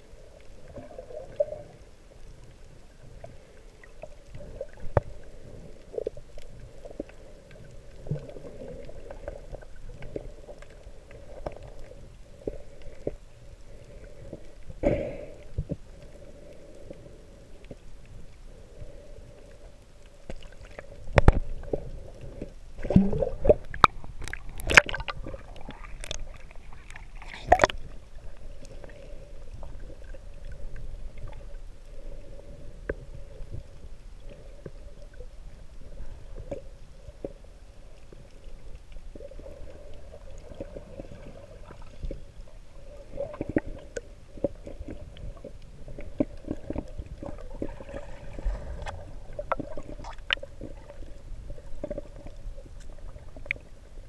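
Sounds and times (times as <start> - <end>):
faint steady hum: 0.0 - 54.0
muffled underwater sloshing: 0.0 - 54.0.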